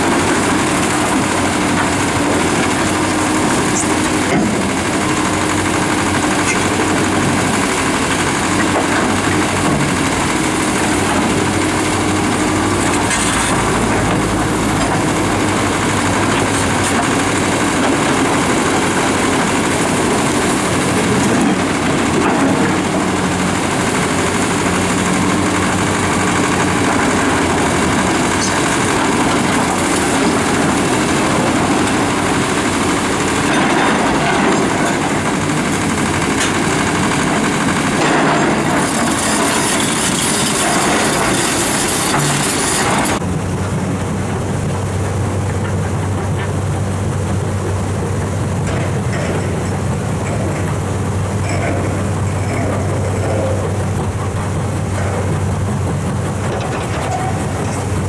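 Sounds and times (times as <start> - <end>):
excavator diesel engines: 0.0 - 58.0.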